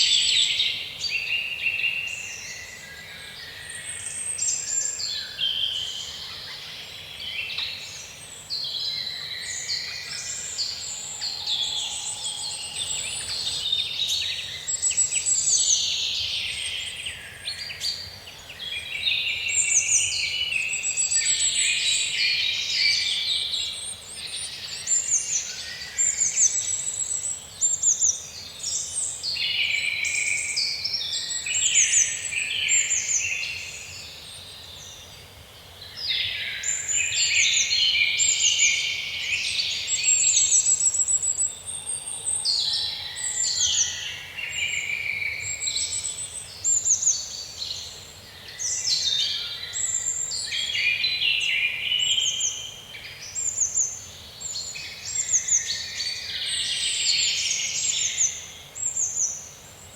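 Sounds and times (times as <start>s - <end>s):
songbirds singing in chorus: 0.0s - 59.9s.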